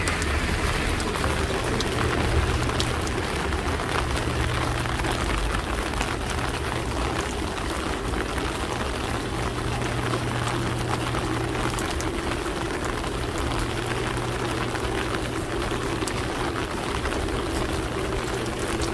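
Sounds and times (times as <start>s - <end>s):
low hum: 0.0s - 18.9s
rain falling: 0.0s - 18.9s
raindrops ticking: 0.0s - 18.9s.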